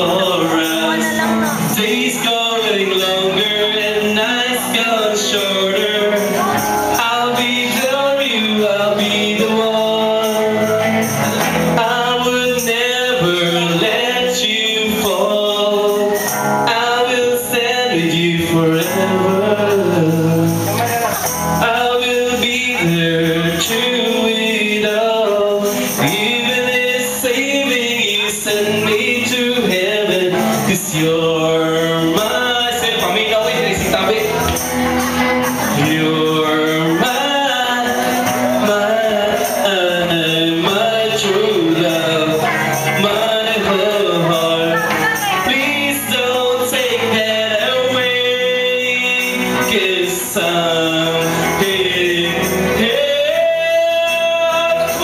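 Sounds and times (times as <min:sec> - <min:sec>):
bass guitar: 0:00.0 - 0:55.0
electric guitar: 0:00.0 - 0:55.0
man singing into microphone: 0:00.0 - 0:55.0.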